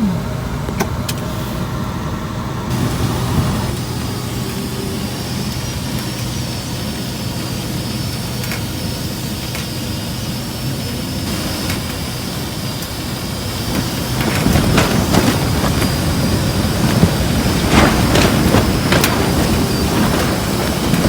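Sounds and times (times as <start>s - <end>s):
strong wind buffeting a tent: 1.0s - 21.0s.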